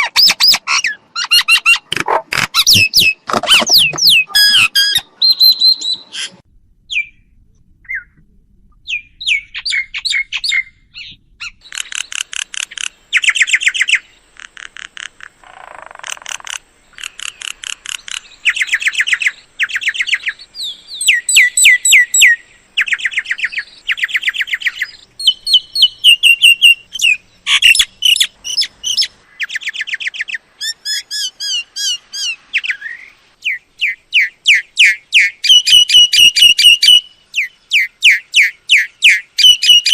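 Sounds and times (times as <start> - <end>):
myna chirping and whistling: 2.6 - 7.2, 8.8 - 14.1, 16.3 - 39.9.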